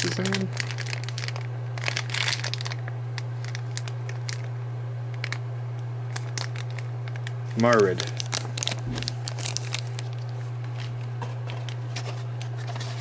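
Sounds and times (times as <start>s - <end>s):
plastic packaging crinkling: 0.0s - 4.5s, 5.1s - 5.4s, 6.1s - 13.0s.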